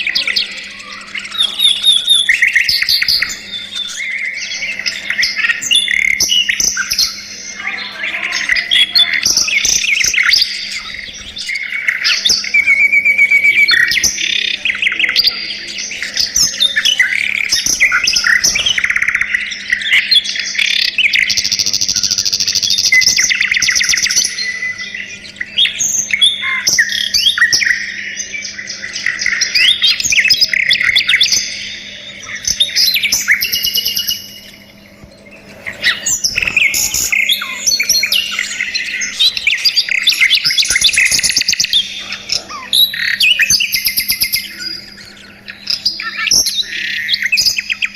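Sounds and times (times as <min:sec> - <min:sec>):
budgerigars chattering and chirping: 0:00.0 - 0:47.9.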